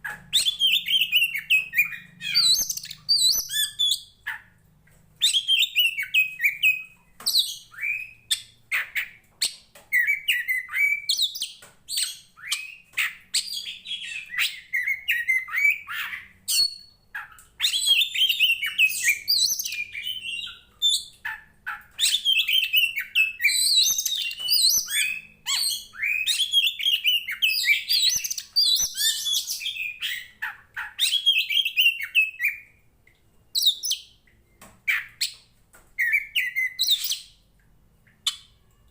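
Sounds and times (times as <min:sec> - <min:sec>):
bird whistling song: 0:00.0 - 0:04.4, 0:05.2 - 0:21.4, 0:22.0 - 0:32.8, 0:33.5 - 0:37.4.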